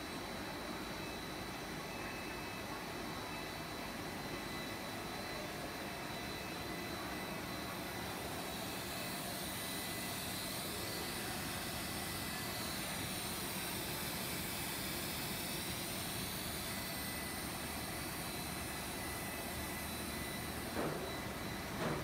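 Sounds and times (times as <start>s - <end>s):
high machine whine: 0.0s - 22.0s
machine hum and hiss: 0.0s - 22.0s.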